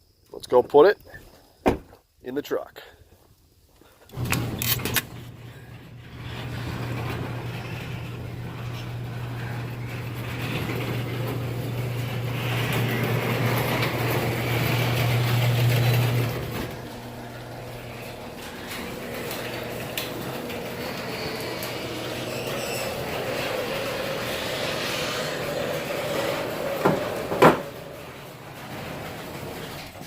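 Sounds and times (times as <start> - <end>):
low mechanical hum: 4.1 - 30.0.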